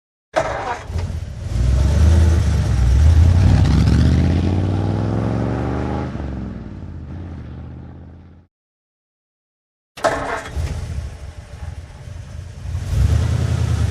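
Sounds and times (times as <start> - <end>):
truck engine starting and revving: 0.4 - 8.5, 10.0 - 13.9.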